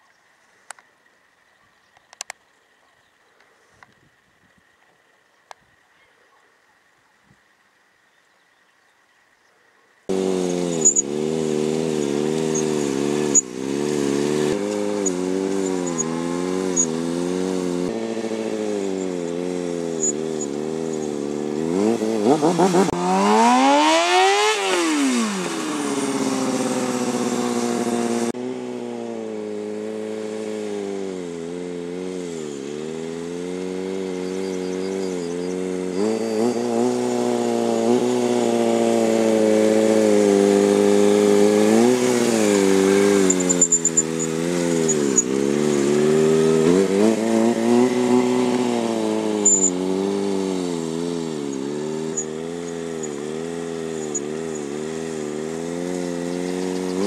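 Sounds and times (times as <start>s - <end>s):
motorcycle engine revving: 10.1s - 57.0s.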